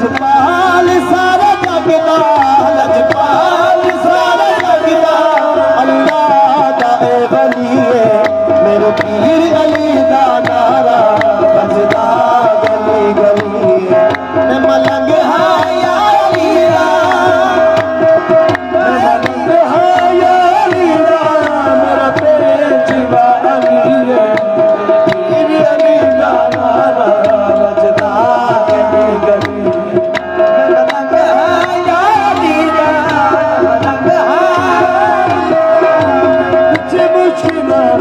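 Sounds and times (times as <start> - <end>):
hand claps: 0.0 - 38.0
harmonium drone: 0.0 - 38.0
men singing: 0.0 - 38.0
percussion strokes: 0.0 - 38.0.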